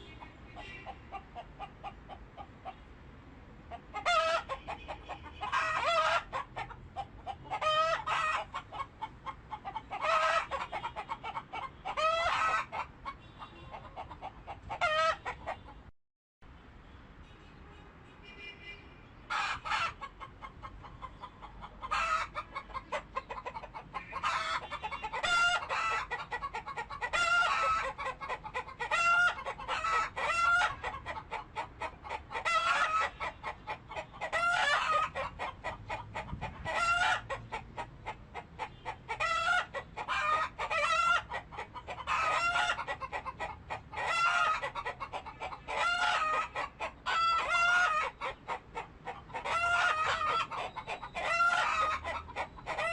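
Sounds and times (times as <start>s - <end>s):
chickens clucking: 0.0s - 2.8s, 3.7s - 15.9s, 19.3s - 52.9s.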